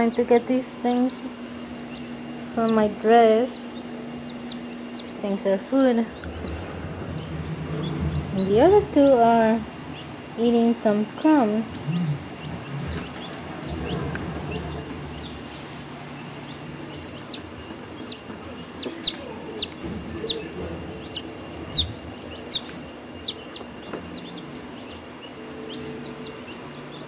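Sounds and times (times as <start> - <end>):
baby chicks peeping: 0.0 - 27.0.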